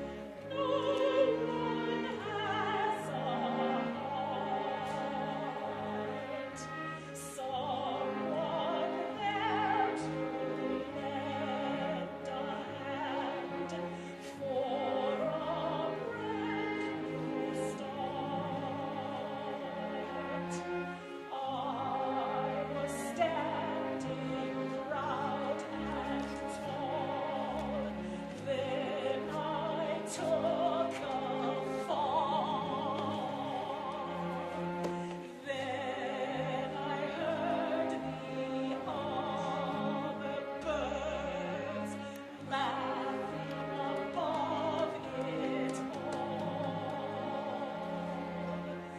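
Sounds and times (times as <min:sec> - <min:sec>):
opera singing with vibrato: 0:00.0 - 0:48.9.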